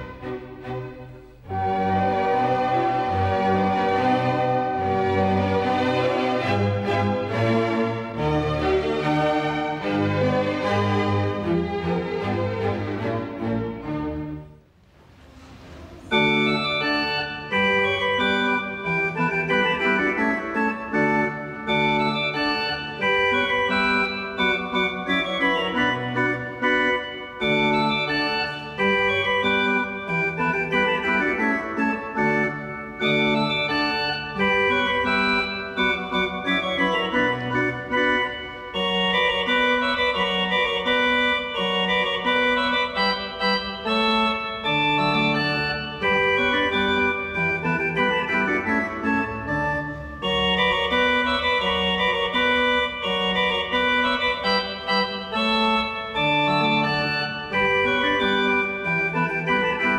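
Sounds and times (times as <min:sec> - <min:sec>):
church organ playing chords: 0:00.0 - 0:14.5, 0:16.0 - 0:59.9.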